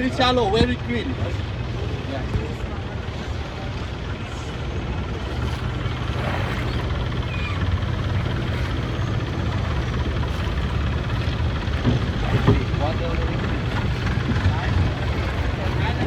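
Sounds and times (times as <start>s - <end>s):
boat engine droning: 0.0s - 16.0s
water wash noise: 0.0s - 16.0s.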